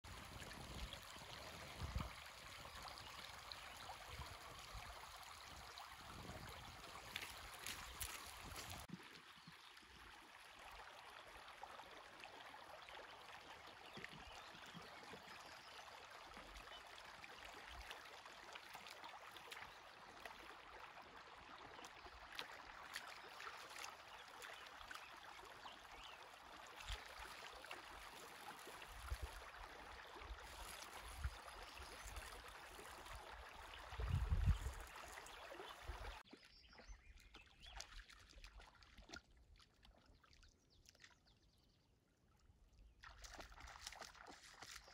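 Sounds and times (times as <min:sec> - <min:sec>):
creek trickling over stones: 0:00.0 - 0:44.9.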